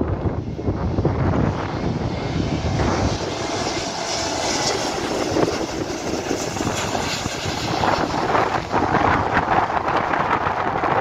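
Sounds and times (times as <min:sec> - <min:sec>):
jet engines passing close: 0:00.0 - 0:11.0.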